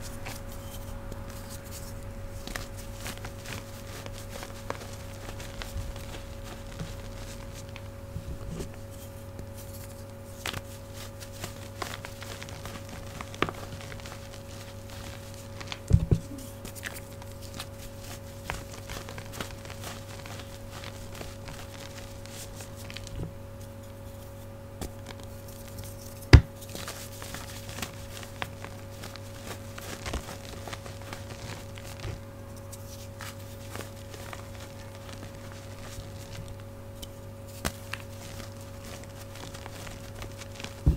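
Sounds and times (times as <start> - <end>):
refrigerator hum: 0.0 - 40.9.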